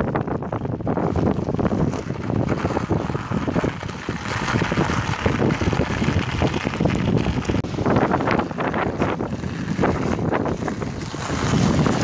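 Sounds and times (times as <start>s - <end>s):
bike tyres crackling on sand: 0.0s - 12.0s
wind buffeting microphone: 0.0s - 12.0s.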